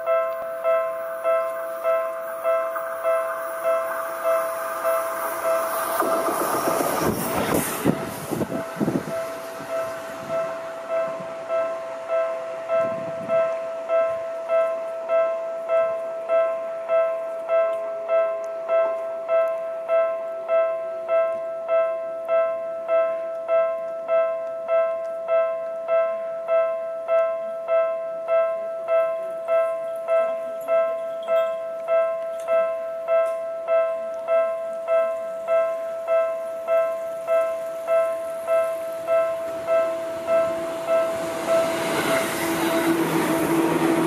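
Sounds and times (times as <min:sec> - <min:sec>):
level-crossing alarm ringing: 0:00.0 - 0:44.0.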